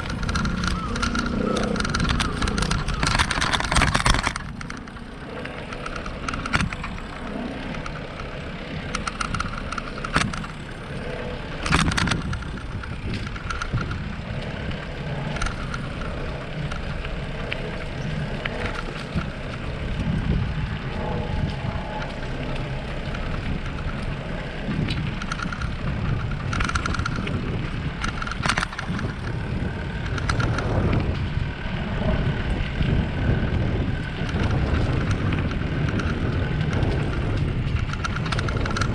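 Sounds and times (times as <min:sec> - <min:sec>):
bicycle rattling over bumps: 0:00.0 - 0:38.9
wind rumble on microphone: 0:00.0 - 0:38.9.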